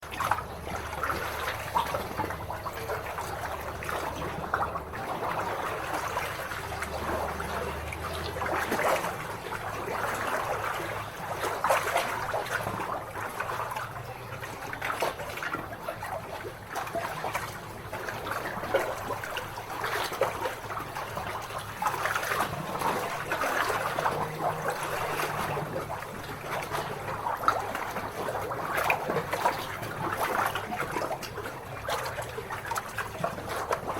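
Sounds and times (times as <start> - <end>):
lake water lapping at shore: 0.0 - 33.9.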